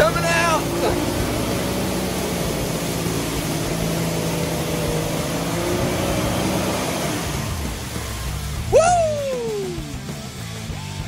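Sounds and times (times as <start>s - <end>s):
tyres churning through mud: 0.0s - 10.9s
engine running hard: 0.0s - 11.0s.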